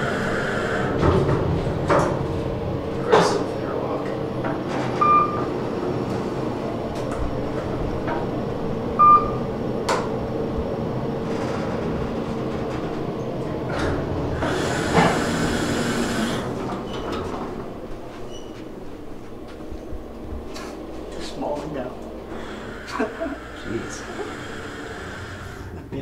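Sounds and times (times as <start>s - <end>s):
elevator doors sliding open: 0.0s - 26.0s
elevator hum: 0.0s - 26.0s.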